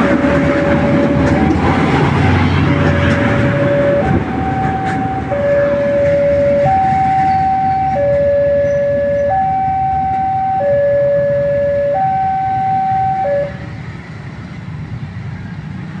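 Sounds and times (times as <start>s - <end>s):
two-tone warning signal: 0.0s - 13.7s
steady low rumble: 0.0s - 14.0s.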